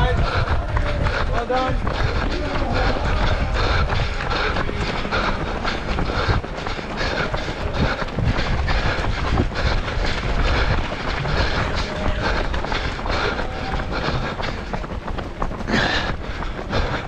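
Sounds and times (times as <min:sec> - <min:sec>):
running footsteps: 0:00.0 - 0:17.0
wind rumbling on microphone: 0:00.0 - 0:17.0.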